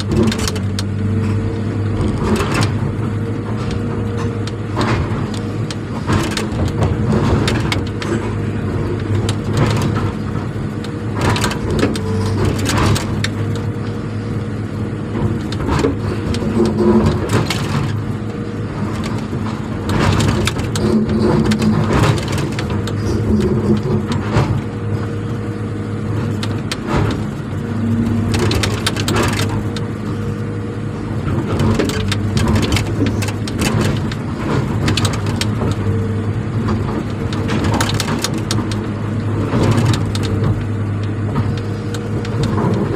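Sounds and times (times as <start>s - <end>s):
cracking and crunching: 0.0s - 14.0s, 15.1s - 25.3s, 26.0s - 42.9s
motor hum: 0.0s - 42.9s.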